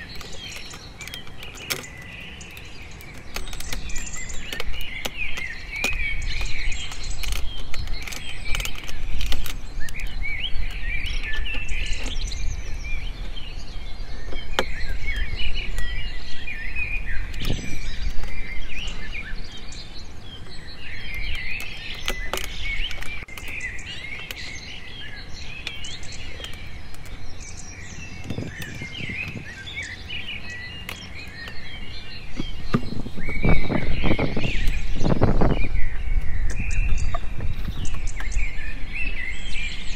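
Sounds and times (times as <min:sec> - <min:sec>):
sharp clicks: 0:00.0 - 0:13.4, 0:20.4 - 0:39.2
small birds chirping: 0:00.0 - 0:39.9.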